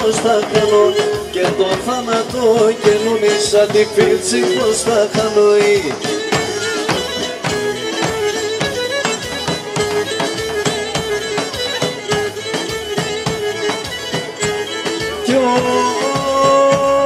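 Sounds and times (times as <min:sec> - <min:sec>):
bowed folk fiddle dance tune: 0:00.0 - 0:17.0
steady beat: 0:00.0 - 0:17.0.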